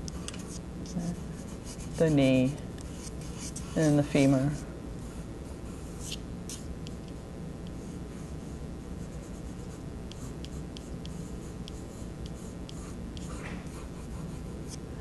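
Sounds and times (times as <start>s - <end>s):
low room hum: 0.0s - 15.0s
pencil scratching on paper: 0.2s - 6.7s, 9.0s - 14.8s.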